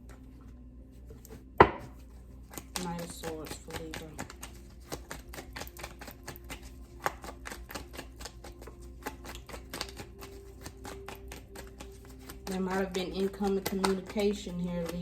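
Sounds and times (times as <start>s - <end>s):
cards being shuffled by hand: 1.0s - 15.0s.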